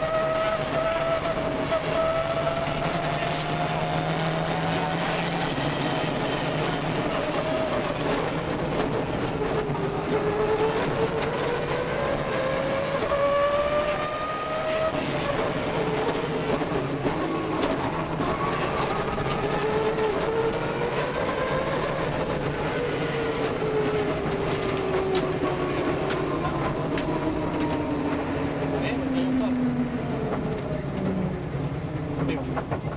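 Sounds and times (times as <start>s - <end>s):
car engine accelerating hard: 0.0s - 32.9s.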